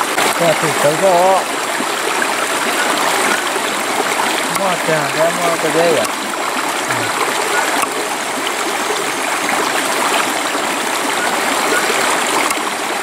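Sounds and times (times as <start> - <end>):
flowing stream: 0.0 - 13.0.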